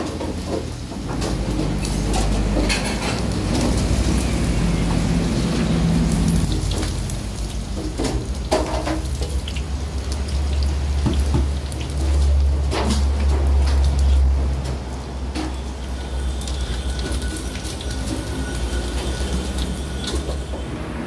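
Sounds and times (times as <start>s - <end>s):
food deep-frying in oil: 0.0s - 20.8s.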